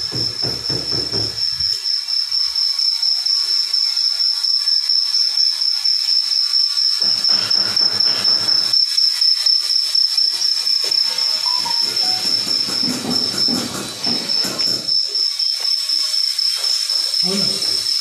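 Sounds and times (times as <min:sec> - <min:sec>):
high-pitched whine: 0:00.0 - 0:18.0.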